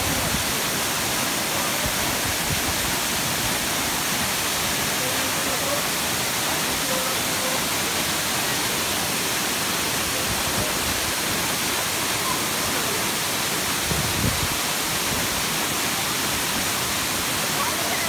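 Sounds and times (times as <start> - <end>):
waterfall rushing onto rock: 0.0 - 18.0.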